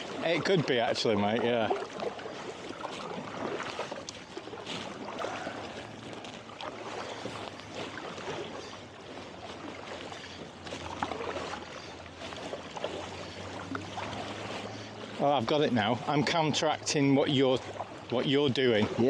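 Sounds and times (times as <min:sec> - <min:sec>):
kayak paddles splashing: 0:00.0 - 0:19.0
water sloshing along hull: 0:00.0 - 0:19.0.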